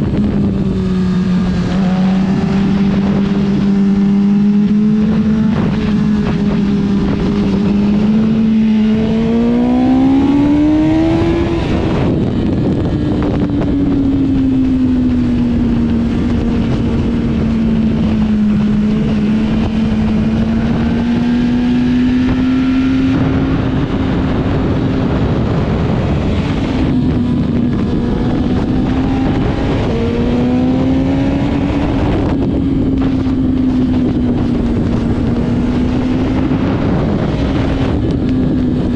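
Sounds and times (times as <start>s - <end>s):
motorcycle engine: 0.0s - 38.9s
wind rush: 0.0s - 38.9s.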